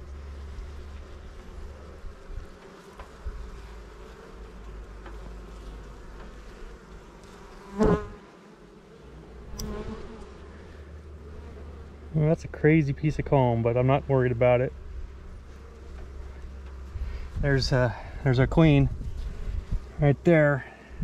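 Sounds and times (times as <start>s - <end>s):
bee flying past: 0.0s - 21.0s
honeybees buzzing: 0.0s - 21.0s.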